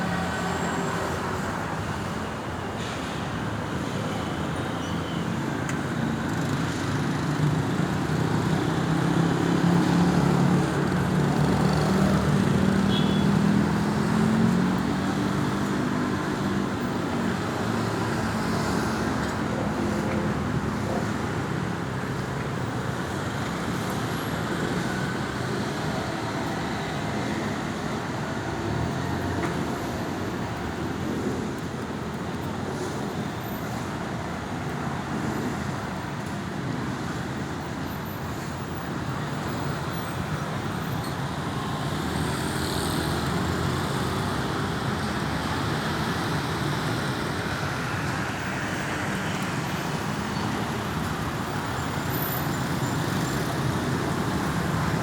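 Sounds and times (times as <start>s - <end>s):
road traffic passing: 0.0s - 55.0s.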